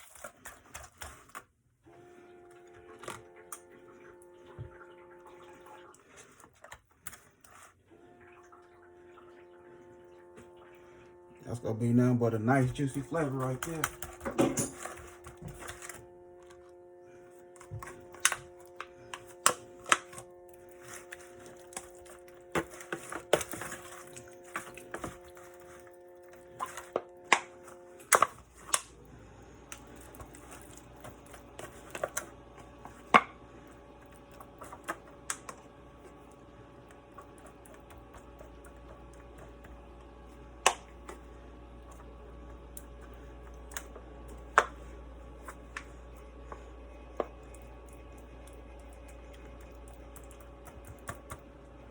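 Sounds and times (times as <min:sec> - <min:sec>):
steady hum: 0:07.9 - 0:51.9.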